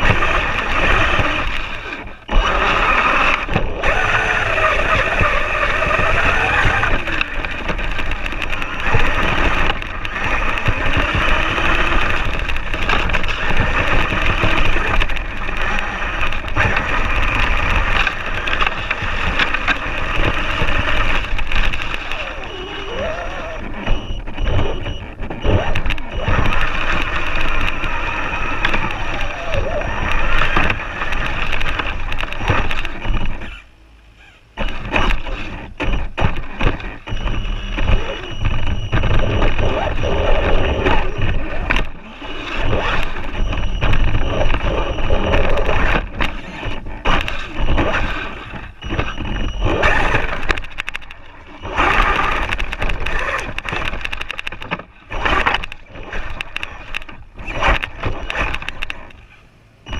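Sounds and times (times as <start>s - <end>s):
electric motor whine: 0.0s - 59.9s
tyre and terrain noise: 0.0s - 59.9s.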